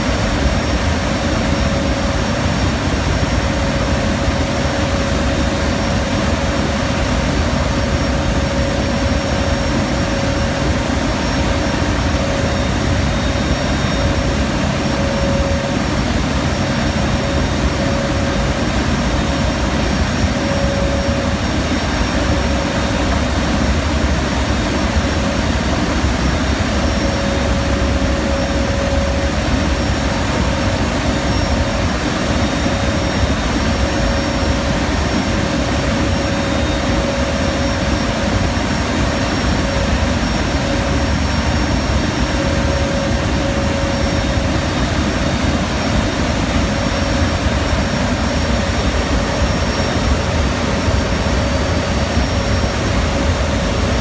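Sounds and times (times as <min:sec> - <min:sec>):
steady droning tone: 0:00.0 - 0:54.0
turboprop engines roaring: 0:00.0 - 0:54.0.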